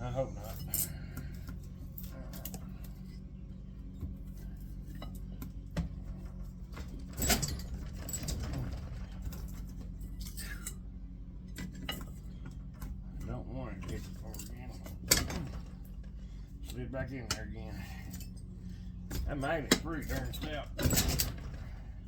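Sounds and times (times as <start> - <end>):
steady low hum: 0.0 - 22.0
light metallic clinks and knocks: 0.4 - 10.8, 11.4 - 21.8.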